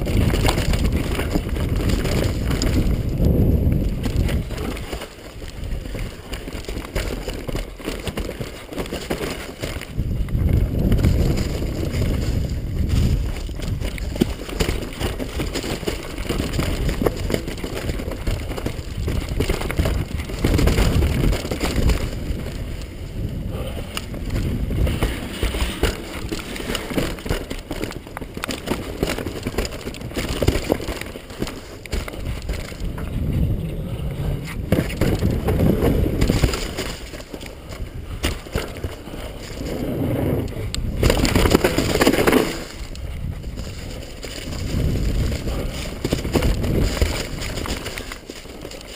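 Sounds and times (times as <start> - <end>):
bike rattling and knocking: 0.0 - 48.9
tyre noise on dirt and stone: 0.0 - 48.9.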